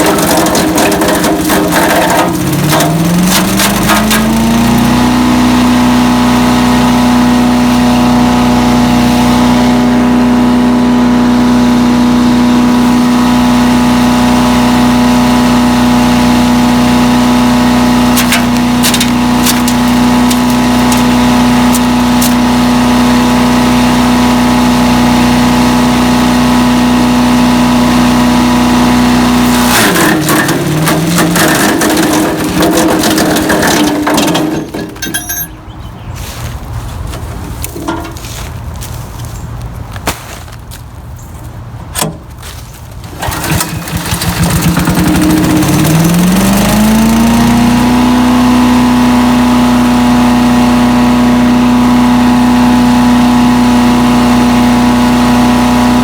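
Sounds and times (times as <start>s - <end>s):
wood chipper engine running: 0.0s - 40.8s, 41.8s - 56.0s
wood crunching in chipper: 0.0s - 56.0s.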